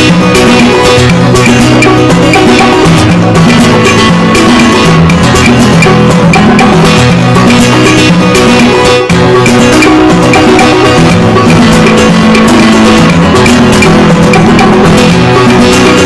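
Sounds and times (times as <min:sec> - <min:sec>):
background music with percussion: 0:00.0 - 0:16.0.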